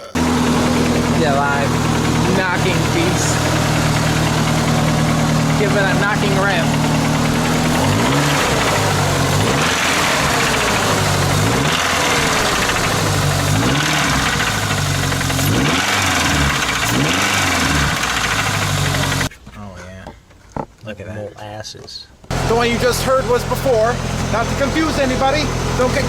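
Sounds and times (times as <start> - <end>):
truck engine revving with knock: 0.0 - 19.3, 22.3 - 26.0.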